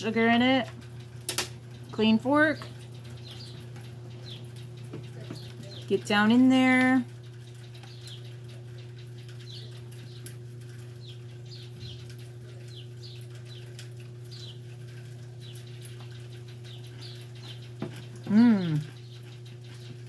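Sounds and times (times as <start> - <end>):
small birds chirping: 0.0 - 20.0
steady low hum: 0.0 - 20.0.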